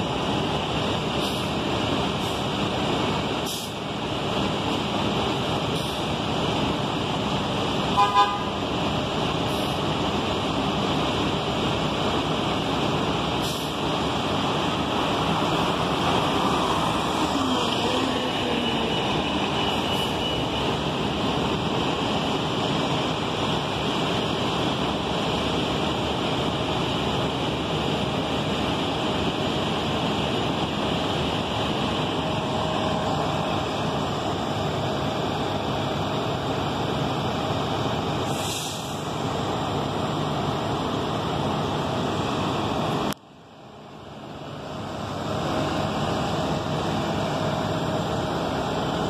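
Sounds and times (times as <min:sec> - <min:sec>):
engine and road noise: 0:00.0 - 0:49.0.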